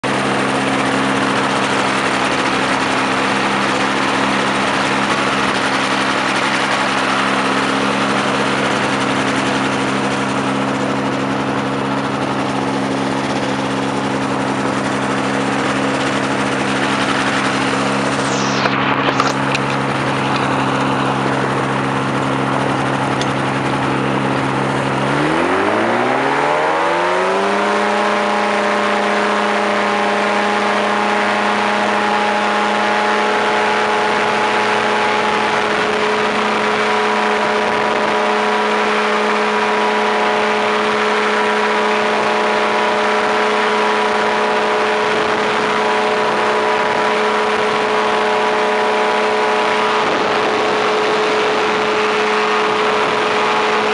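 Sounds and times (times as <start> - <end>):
engine and propeller running: 0.0 - 53.9.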